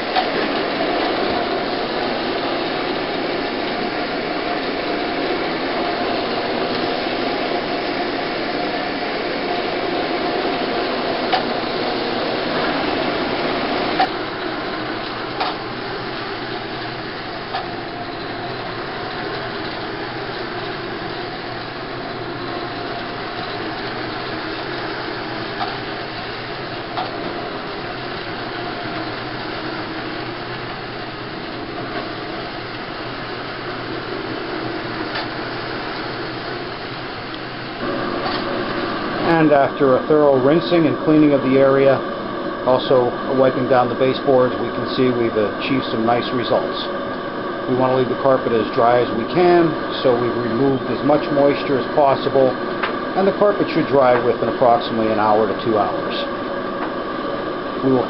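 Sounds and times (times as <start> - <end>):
carpet extraction machine running: 0.0 - 58.0.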